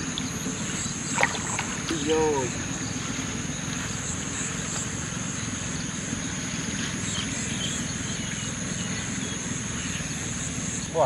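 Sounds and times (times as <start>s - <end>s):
steady low rumble: 0.0s - 10.8s
insects trilling: 0.0s - 11.0s.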